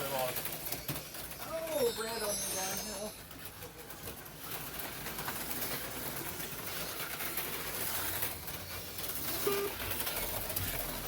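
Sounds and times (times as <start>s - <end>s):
cars rattling on plastic track: 0.0s - 11.0s
slot car motors whirring: 0.0s - 11.0s.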